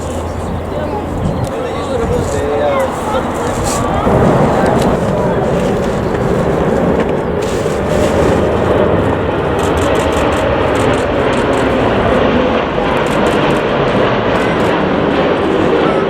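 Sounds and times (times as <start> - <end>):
jet airliner engine noise: 0.0 - 16.0.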